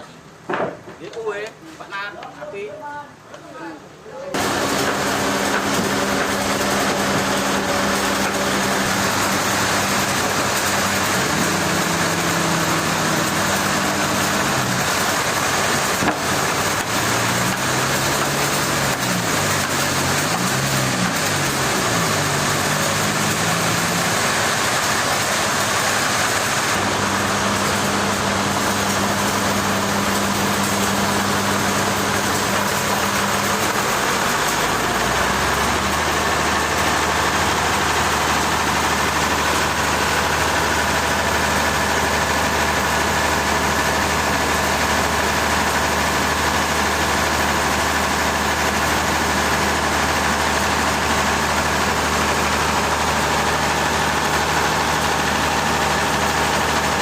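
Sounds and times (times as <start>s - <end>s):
heavy machine engine revving: 4.3s - 57.0s.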